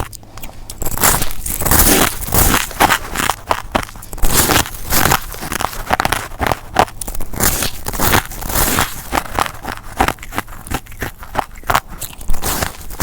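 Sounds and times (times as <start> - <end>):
ice being chewed: 0.0 - 13.0.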